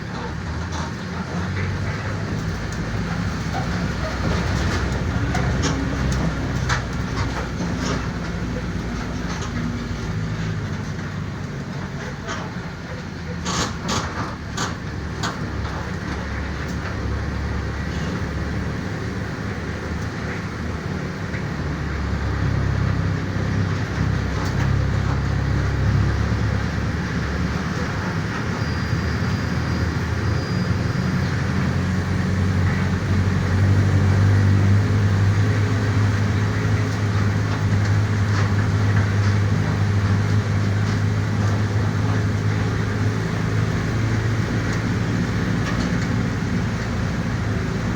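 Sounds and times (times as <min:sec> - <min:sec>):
bus body rattles: 0:00.0 - 0:47.9
bus diesel engine: 0:00.0 - 0:47.9.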